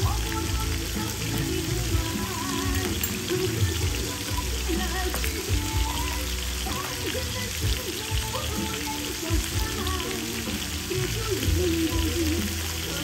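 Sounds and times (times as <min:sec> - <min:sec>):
meat sizzling on a grill pan: 0:00.0 - 0:13.0
song with singing voice: 0:00.0 - 0:13.0.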